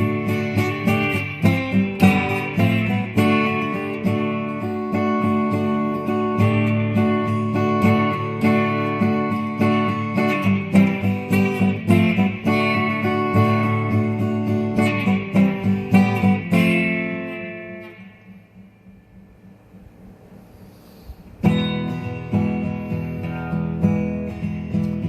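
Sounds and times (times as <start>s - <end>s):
guitar picking and strumming: 0.0s - 25.0s.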